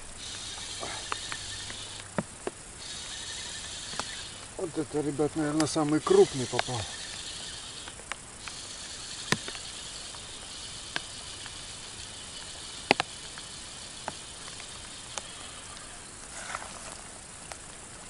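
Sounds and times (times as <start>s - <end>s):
faint insect buzz: 0.0s - 18.0s
steady high hiss: 0.0s - 18.0s
sharp ticks: 0.2s - 15.9s.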